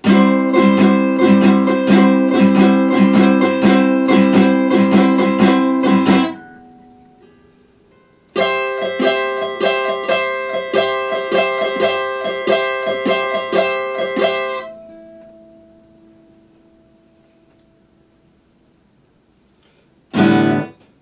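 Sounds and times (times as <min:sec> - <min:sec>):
acoustic guitar strumming: 0:00.0 - 0:18.6, 0:20.1 - 0:21.0.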